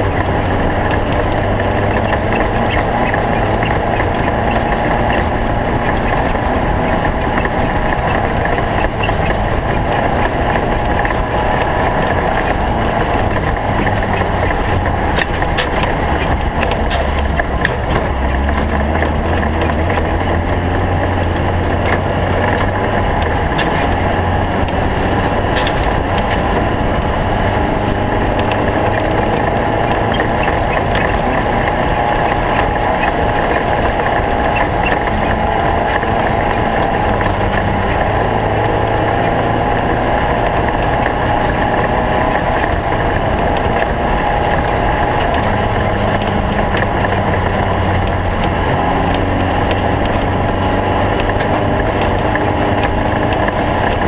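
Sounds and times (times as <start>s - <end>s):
car rattling over rough ground: 0.0s - 54.0s
race car engine running: 0.0s - 54.0s.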